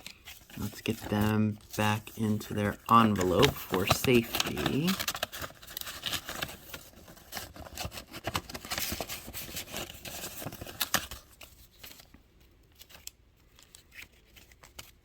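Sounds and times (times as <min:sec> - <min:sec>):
paper photographs rustling: 0:00.0 - 0:15.0.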